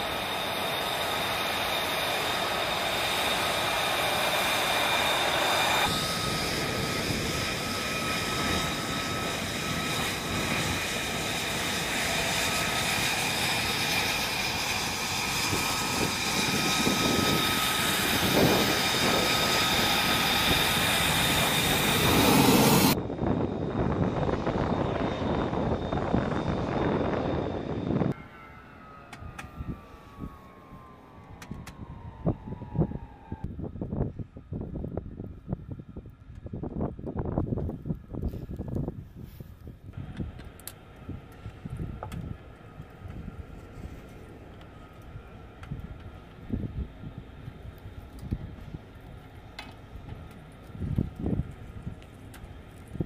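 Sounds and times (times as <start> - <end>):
jet engine whining: 0.0 - 35.1, 39.9 - 53.0.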